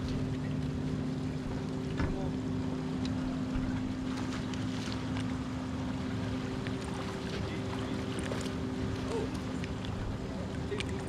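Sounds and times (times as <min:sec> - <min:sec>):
trolling motor humming: 0:00.0 - 0:11.0.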